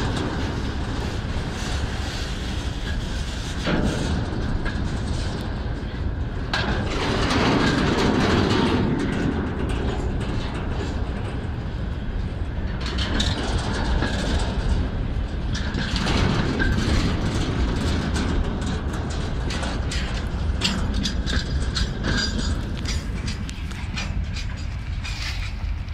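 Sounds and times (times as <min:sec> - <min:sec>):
train wheels clacking over rail joints: 0:00.0 - 0:25.9.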